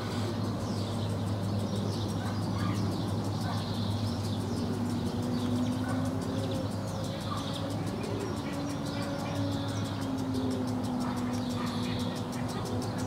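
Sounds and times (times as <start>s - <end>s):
distant low engine drone: 0.0s - 13.0s
garden sprinkler ticking: 0.0s - 13.0s
swallows twittering: 0.0s - 13.0s.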